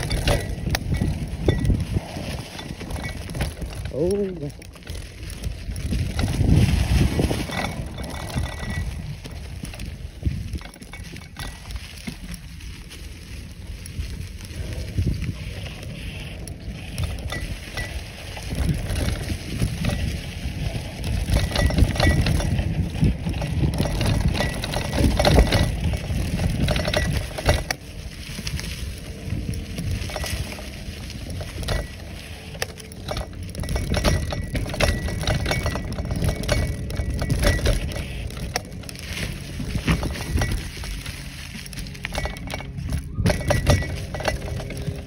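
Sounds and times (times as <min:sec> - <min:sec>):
bike rattling and clinking: 0:00.0 - 0:45.0
low rumble: 0:00.0 - 0:45.0
tyre crunching over dry leaves: 0:00.0 - 0:45.0.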